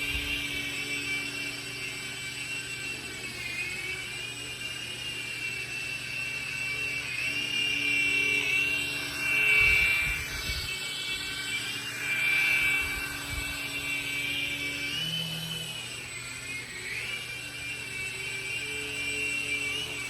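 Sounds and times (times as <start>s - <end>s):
toy drone motor whine: 0.0s - 20.0s.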